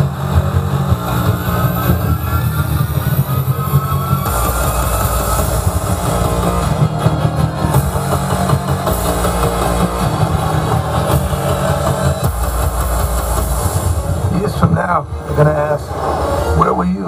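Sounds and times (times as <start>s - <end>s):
film music: 0.0s - 17.0s
heavy bass vehicle rumble: 0.0s - 17.0s.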